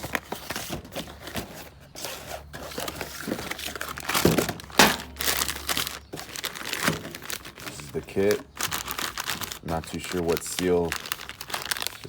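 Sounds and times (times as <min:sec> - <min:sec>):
plastic packaging crinkling: 0:00.0 - 0:01.3, 0:02.5 - 0:12.0.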